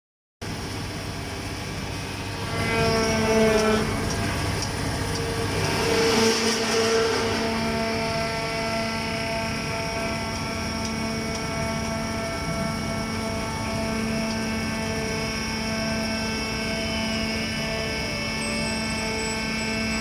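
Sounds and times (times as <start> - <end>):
engine running and revving: 0.8 - 20.0.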